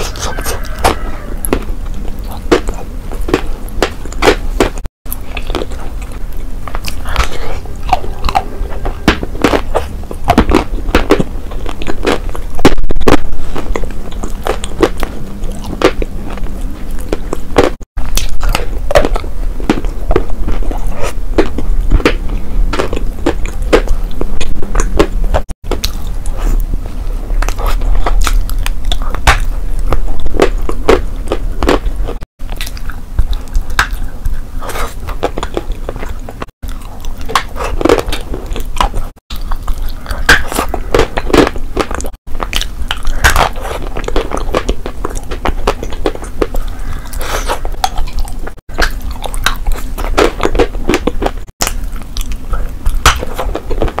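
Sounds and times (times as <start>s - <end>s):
chewing crunchy chalk: 0.0s - 54.0s
wet mouth sounds: 0.0s - 54.0s.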